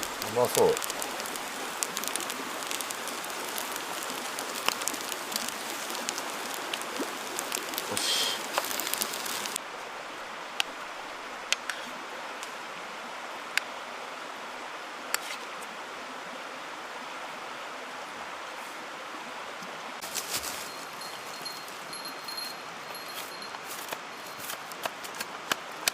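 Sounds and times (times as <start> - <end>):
mountain stream rushing: 0.0 - 25.9.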